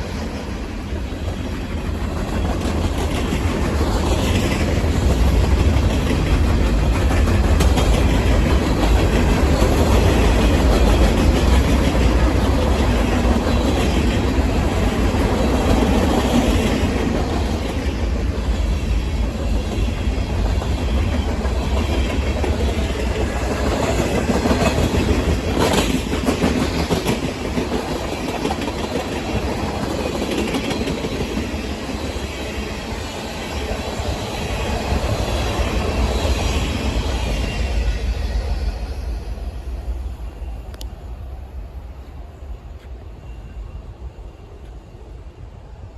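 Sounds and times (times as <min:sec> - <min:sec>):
freight train cars rolling past: 0:00.0 - 0:45.9.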